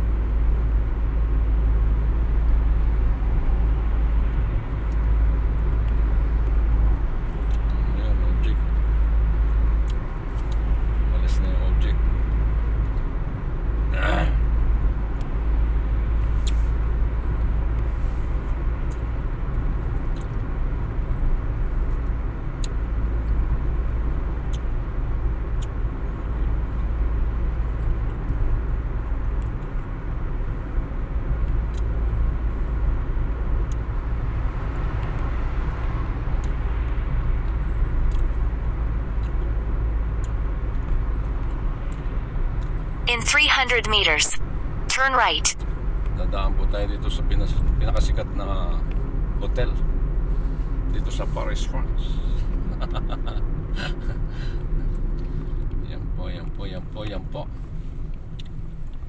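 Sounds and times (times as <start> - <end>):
road and engine rumble in car: 0.0 - 59.0.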